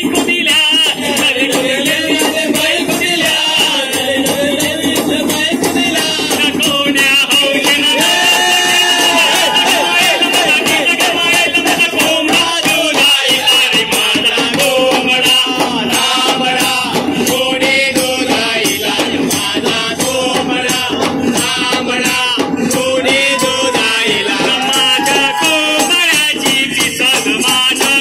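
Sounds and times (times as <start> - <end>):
men singing together: 0.0 - 28.0
pot drums beating: 0.0 - 28.0
shakers: 0.0 - 28.0.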